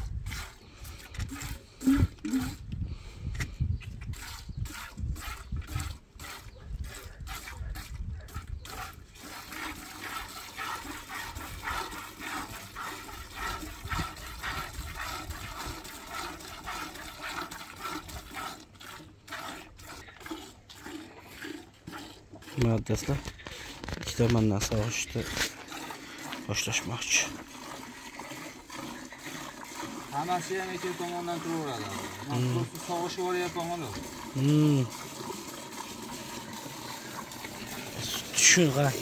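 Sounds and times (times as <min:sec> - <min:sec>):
milk squirting into a pail: 0:00.0 - 0:39.0.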